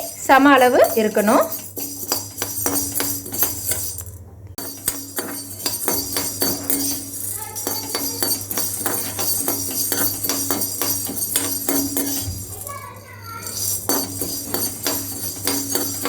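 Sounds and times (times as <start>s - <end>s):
peppercorns rattling in a pan: 0.0s - 16.0s.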